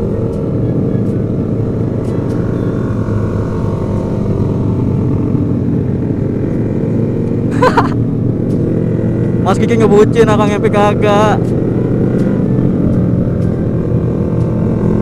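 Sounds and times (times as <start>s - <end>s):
motorcycle engines running: 0.0s - 15.0s
wind and road rumble: 0.0s - 15.0s.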